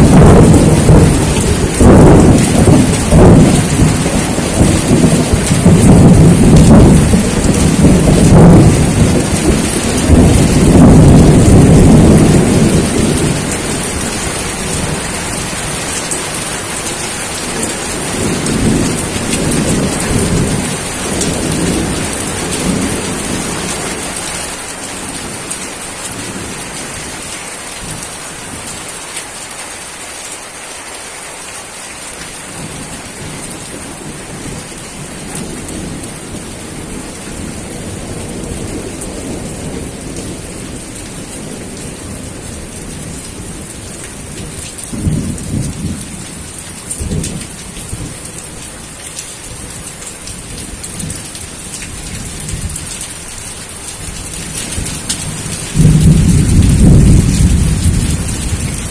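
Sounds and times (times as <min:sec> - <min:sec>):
thunder rumbling: 0:00.0 - 0:26.6, 0:32.5 - 0:48.2, 0:53.9 - 0:58.9
steady rain: 0:00.0 - 0:58.9.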